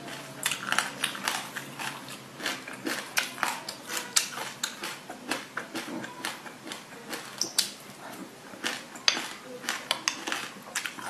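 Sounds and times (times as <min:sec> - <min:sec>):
crunchy wet chewing: 0:00.0 - 0:11.0.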